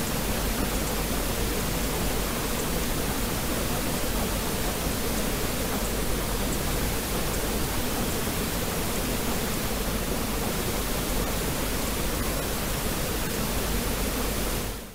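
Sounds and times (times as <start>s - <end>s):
pink noise hiss: 0.0s - 14.9s.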